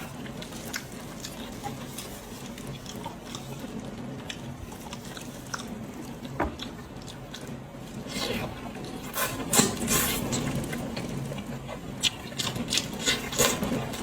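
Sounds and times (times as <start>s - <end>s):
close chewing: 0.0s - 14.0s.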